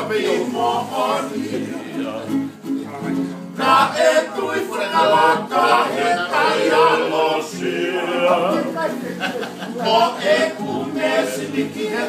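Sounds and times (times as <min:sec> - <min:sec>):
group of men singing: 0:00.0 - 0:02.6, 0:03.2 - 0:12.0.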